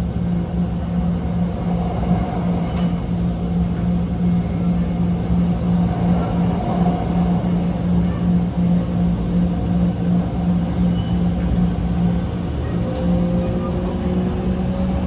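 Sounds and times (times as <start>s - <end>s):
train motors humming: 0.0s - 15.0s
wheels rumbling on rails: 0.0s - 15.0s.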